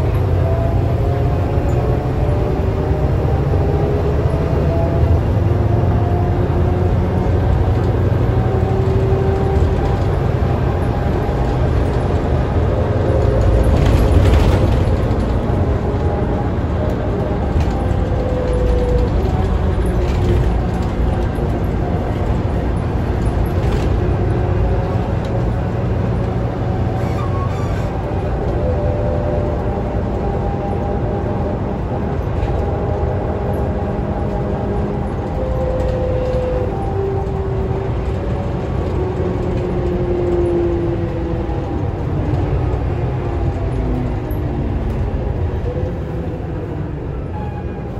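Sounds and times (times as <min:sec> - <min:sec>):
bus engine and road rumble: 0:00.0 - 0:47.9.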